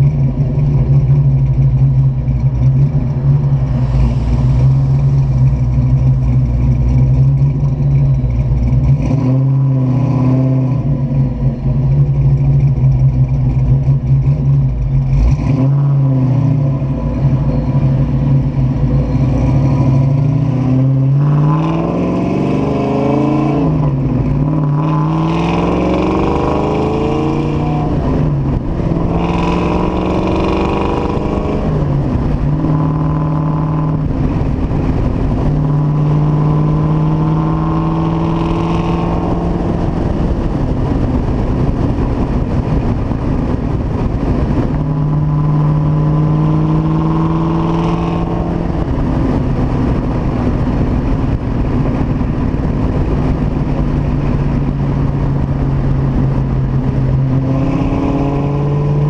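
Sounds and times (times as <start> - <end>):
car engine idling and accelerating: 0.0 - 59.0.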